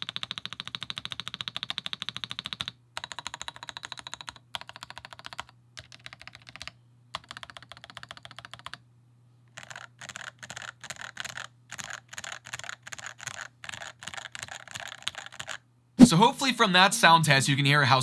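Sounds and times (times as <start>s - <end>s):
fast typing on mechanical keyboard: 0.0s - 8.8s, 9.5s - 15.6s.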